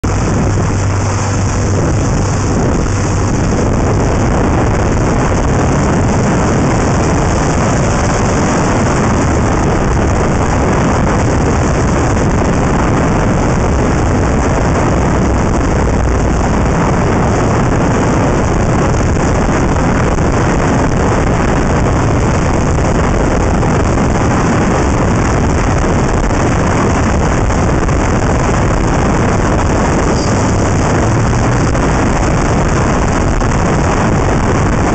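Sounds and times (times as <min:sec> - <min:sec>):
tyre and road noise: 0:00.0 - 0:34.9
wind rush on microphone: 0:00.0 - 0:34.9.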